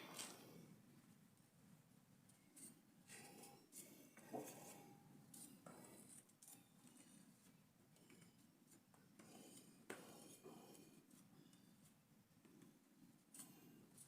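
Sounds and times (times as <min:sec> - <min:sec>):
faint clicks and scrapes: 0:02.3 - 0:14.0.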